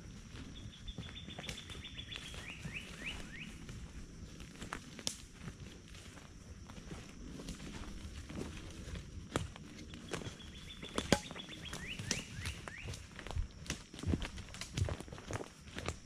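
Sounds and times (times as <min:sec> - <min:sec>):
footsteps: 0:00.0 - 0:16.0.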